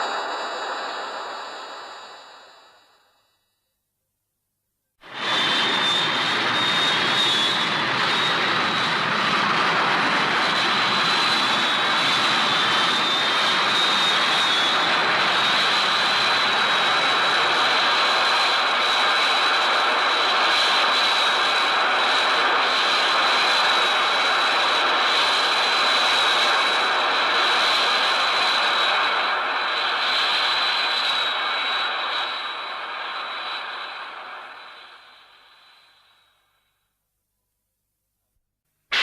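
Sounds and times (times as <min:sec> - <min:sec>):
jet-like roar with high whine: 0:00.0 - 0:03.4, 0:05.0 - 0:36.6.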